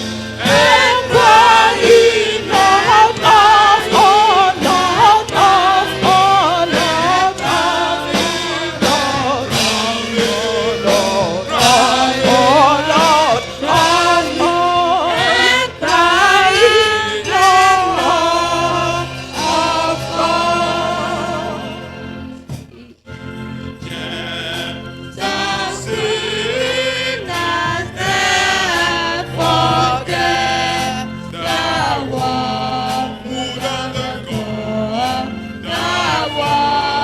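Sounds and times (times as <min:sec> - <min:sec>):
congregation singing a hymn: 0:00.0 - 0:37.0
instrumental accompaniment with beat: 0:00.0 - 0:37.0.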